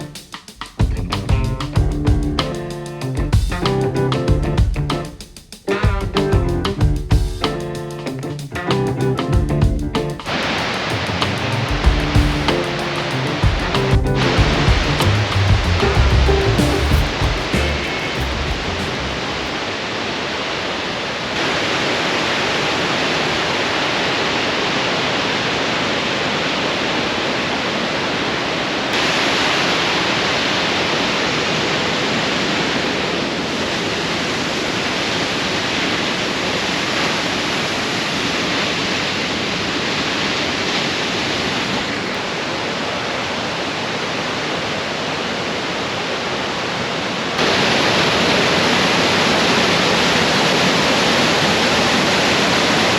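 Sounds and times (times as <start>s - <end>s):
waterfall rushing: 10.2s - 52.9s.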